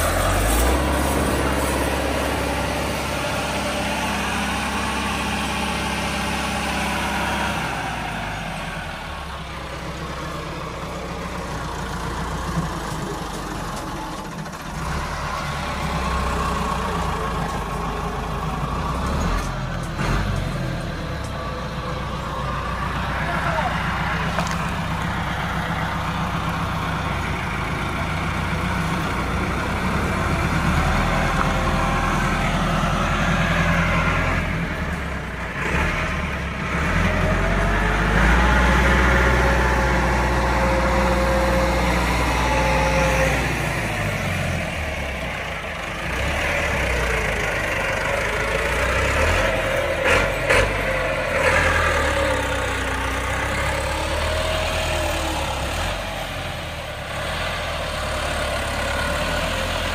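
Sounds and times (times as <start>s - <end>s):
tractor diesel engine working hard: 0.0s - 59.9s.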